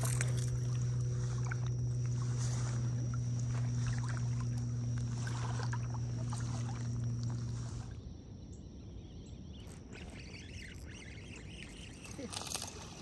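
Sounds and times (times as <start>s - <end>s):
water lapping: 0.0s - 8.0s, 9.6s - 13.0s
steady low hum: 0.0s - 13.0s.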